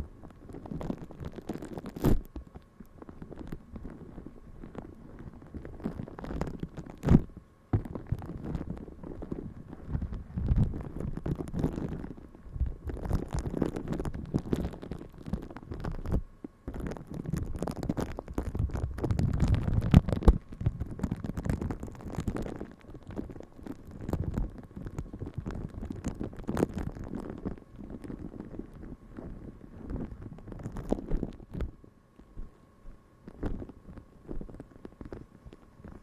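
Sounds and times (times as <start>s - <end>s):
close scratching and rubbing: 0.0s - 36.0s.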